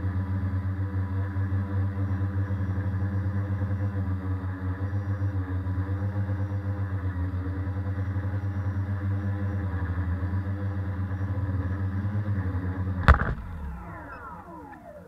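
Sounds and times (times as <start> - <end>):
drone motors and propellers humming: 0.0 - 15.0.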